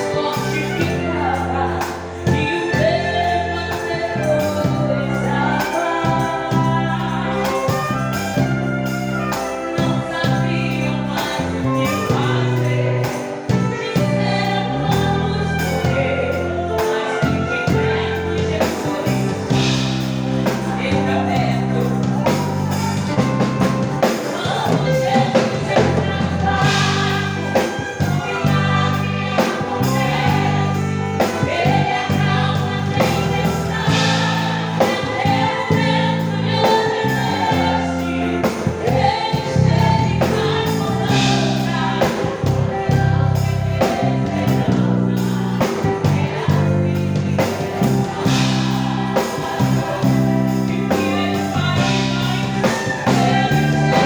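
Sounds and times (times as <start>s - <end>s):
group singing a hymn: 0.0s - 54.0s
live band: 0.0s - 54.0s.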